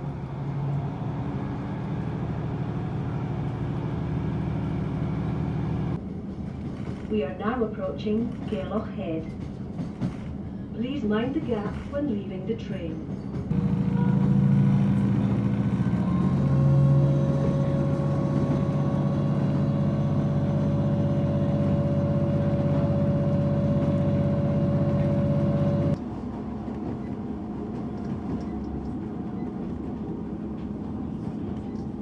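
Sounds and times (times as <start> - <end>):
diesel train engine droning: 0.0 - 11.4, 12.2 - 32.0.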